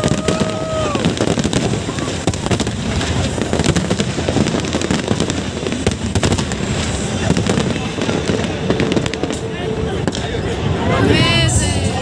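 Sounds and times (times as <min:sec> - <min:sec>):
continuous low rumble: 0:00.0 - 0:12.0
crowd voices: 0:00.0 - 0:12.0
fireworks bangs and crackling: 0:00.0 - 0:12.0.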